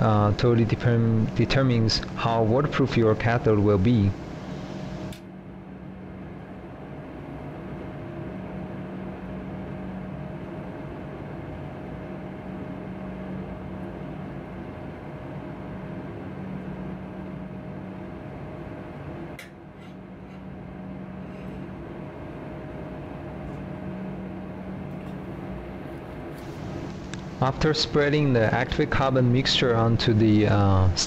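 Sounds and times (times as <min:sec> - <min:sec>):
mechanical ventilation hum: 0:00.0 - 0:31.0.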